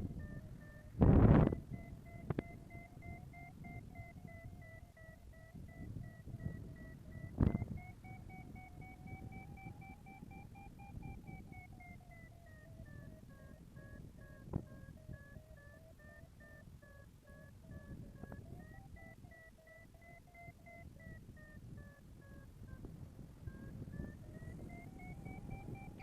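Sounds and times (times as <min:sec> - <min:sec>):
variometer beeping: 0:00.0 - 0:26.0
wind rumble on microphone: 0:00.0 - 0:26.0.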